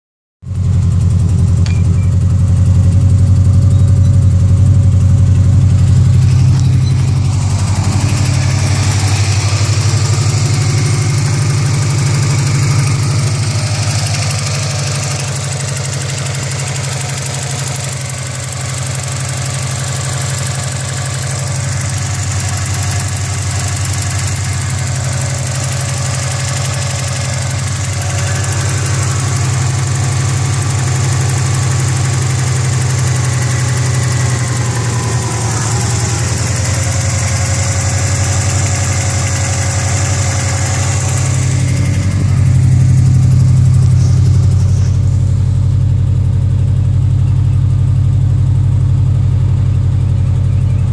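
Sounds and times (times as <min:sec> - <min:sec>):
car engine idling with sputter: 0:00.4 - 0:50.9.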